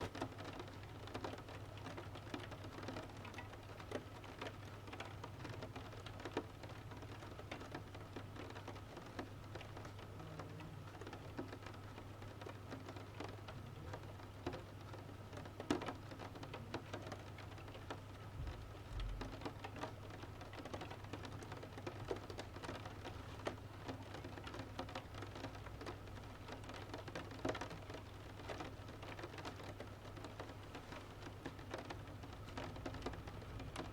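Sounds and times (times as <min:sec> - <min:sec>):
rain pattering on window: 0:00.0 - 0:33.9.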